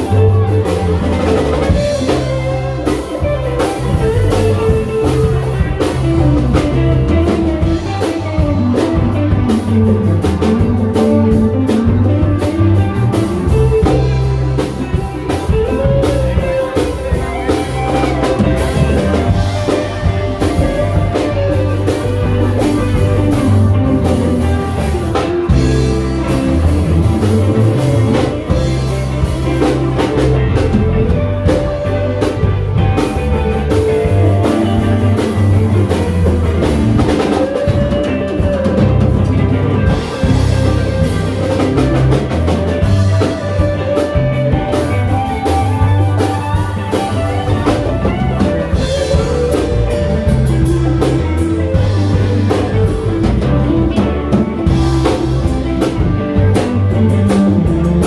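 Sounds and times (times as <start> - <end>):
live band playing: 0.0 - 58.0.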